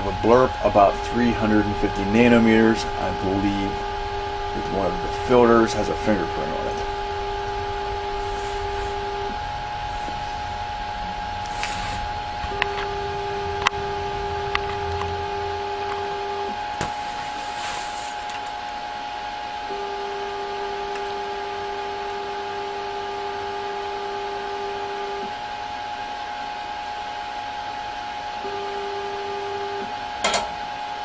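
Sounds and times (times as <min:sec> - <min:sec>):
machine humming: 0:00.0 - 0:31.0
steady whine: 0:00.0 - 0:31.0.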